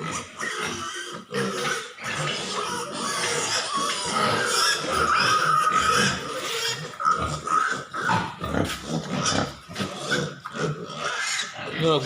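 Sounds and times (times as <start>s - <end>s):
pigs grunting: 0.0s - 12.0s
pigs squealing: 0.0s - 12.0s.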